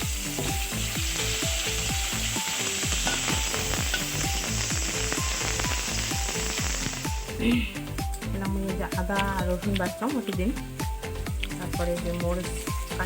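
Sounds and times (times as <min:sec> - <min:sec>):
background music with fast beat: 0:00.0 - 0:13.0
onion sizzling in hot oil: 0:00.0 - 0:13.0.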